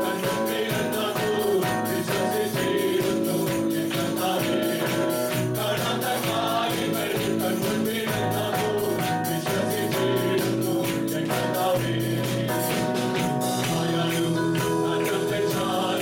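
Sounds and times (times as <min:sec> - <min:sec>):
congregation singing with band: 0:00.0 - 0:16.0
tambourine beat: 0:00.0 - 0:16.0.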